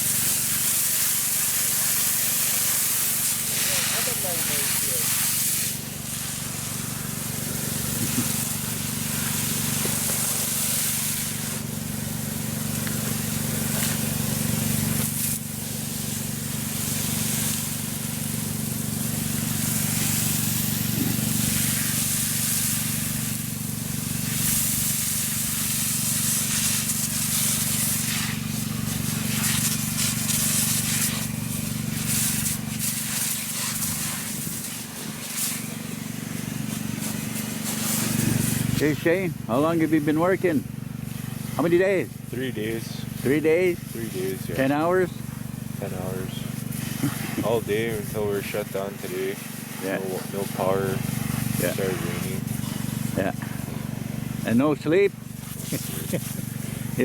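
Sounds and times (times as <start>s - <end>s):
water spraying from fire hose: 0.0s - 57.0s.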